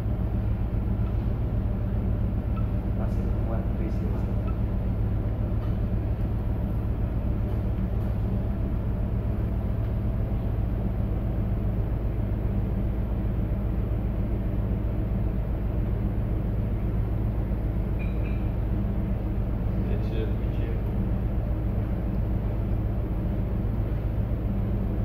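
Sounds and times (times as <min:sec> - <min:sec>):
low hum of ship machinery: 0:00.0 - 0:25.0.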